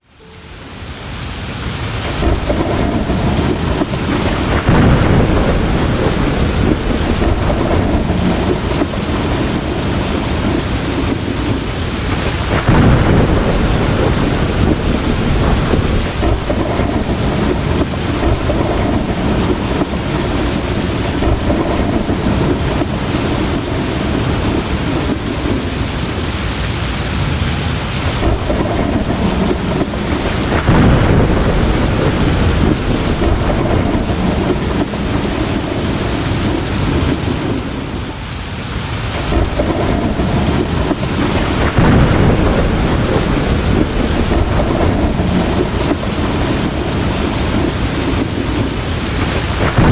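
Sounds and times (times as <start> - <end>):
heavy rain falling: 0.0 - 49.9
thunder rumbling: 1.3 - 49.9.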